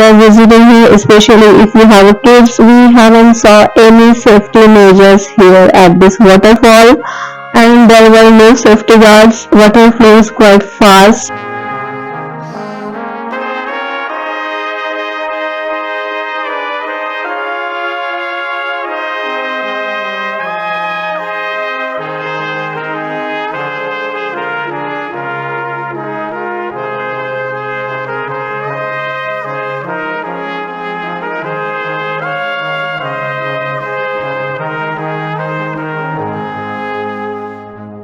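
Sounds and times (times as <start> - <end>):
brass background music: 0.0 - 38.0.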